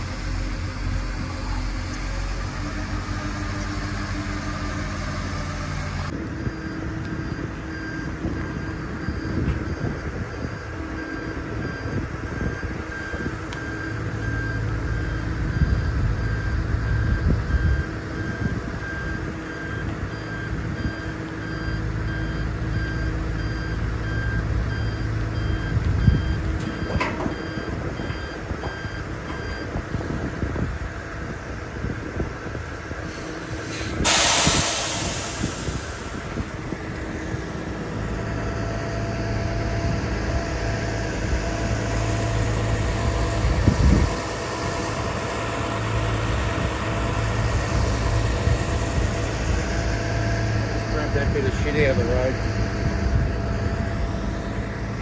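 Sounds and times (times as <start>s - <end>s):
reversing alarm beeping: 0.0s - 31.0s, 33.3s - 55.0s
low engine rumble: 0.0s - 55.0s.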